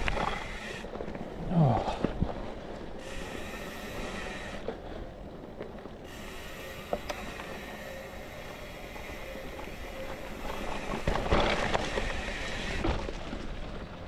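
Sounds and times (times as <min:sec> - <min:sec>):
tyre and wind noise: 0:00.0 - 0:14.0.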